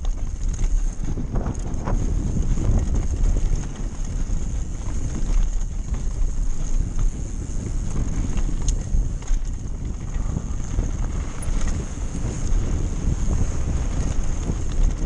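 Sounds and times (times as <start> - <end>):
bike clicks and rattles: 0.0 - 15.0
tyres rumbling on rocky track: 0.0 - 15.0
wind rushing over microphone: 0.0 - 15.0.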